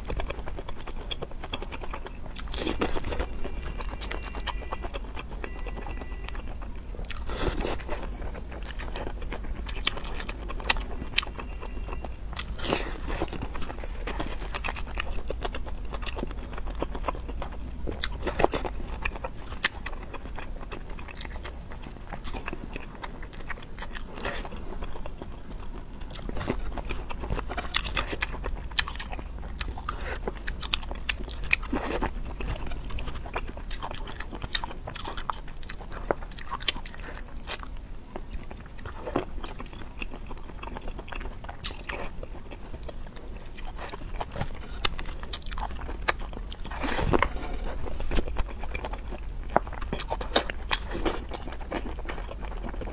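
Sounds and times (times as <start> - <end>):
biting and chewing sausages: 0.0 - 52.9
low steady hum: 0.0 - 52.9.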